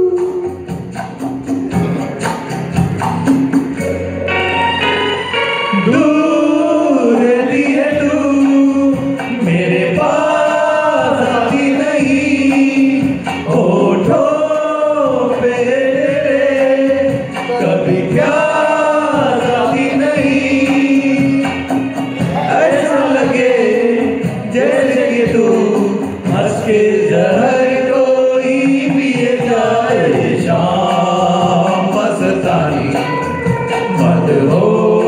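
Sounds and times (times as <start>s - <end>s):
men singing together: 5.7s - 35.0s.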